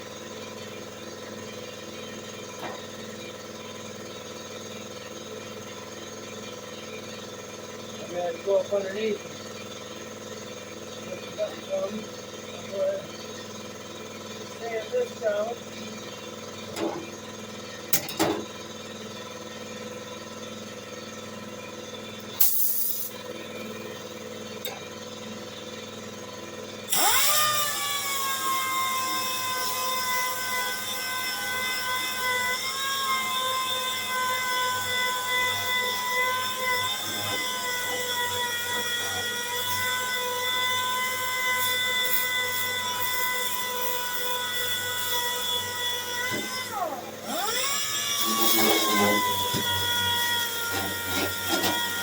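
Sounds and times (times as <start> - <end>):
power sander whining on metal: 0.0 - 52.0.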